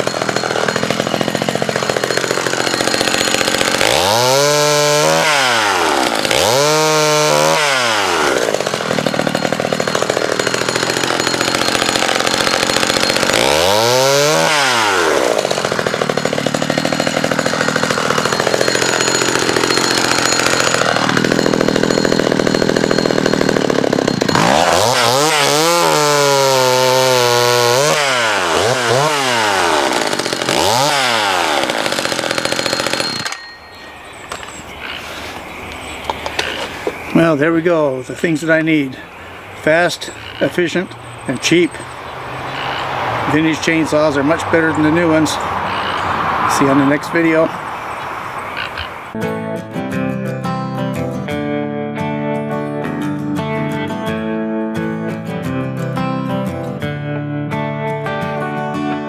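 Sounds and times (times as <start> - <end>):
chainsaw revving: 0.0 - 33.4, 34.3 - 49.2.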